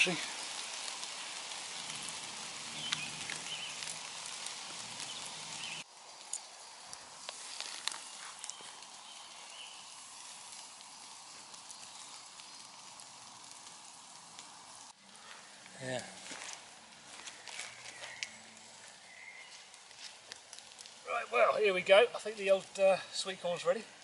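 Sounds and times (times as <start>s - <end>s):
campfire crackle: 0.0s - 24.0s
fire pops and ticks: 0.0s - 24.0s
steady hiss: 0.0s - 24.0s.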